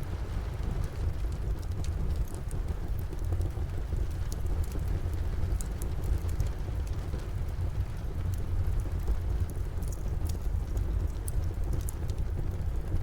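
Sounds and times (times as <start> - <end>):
steady rain: 0.0 - 13.0
wood fire crackling and popping: 0.2 - 13.0.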